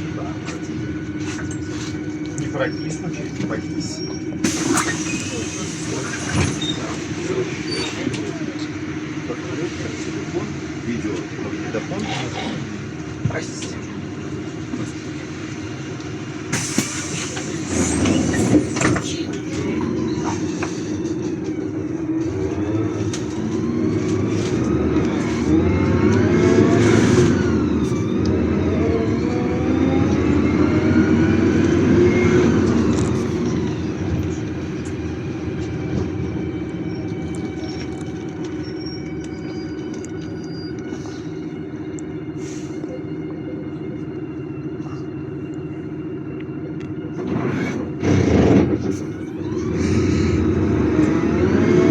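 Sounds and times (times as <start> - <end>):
bus drivetrain whine: 0.0 - 51.9.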